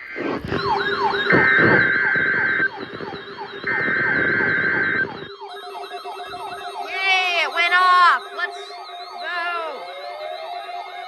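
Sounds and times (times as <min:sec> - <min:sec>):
falling siren sweep with warble: 0:00.3 - 0:11.0
steady high beep: 0:00.4 - 0:10.0.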